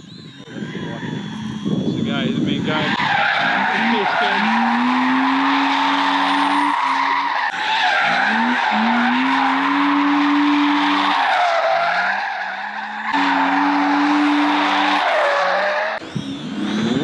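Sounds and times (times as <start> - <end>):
car engine at high revs: 0.0 - 17.0
tyres squealing: 0.4 - 16.6.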